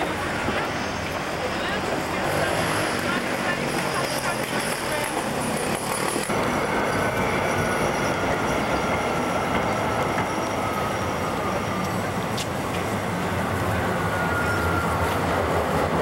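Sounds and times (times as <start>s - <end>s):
city street traffic: 0.0s - 16.0s
tram wheels squealing on rails: 0.0s - 16.0s.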